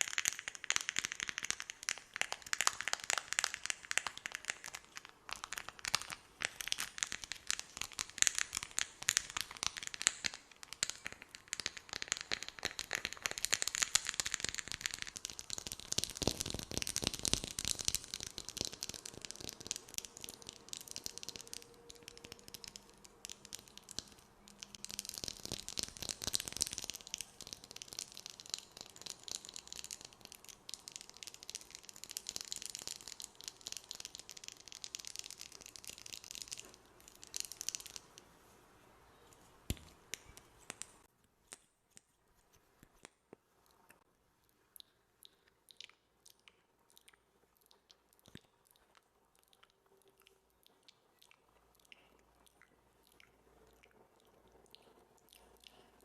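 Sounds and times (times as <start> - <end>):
wet mouth clicks: 0.0 - 38.3, 42.8 - 56.0.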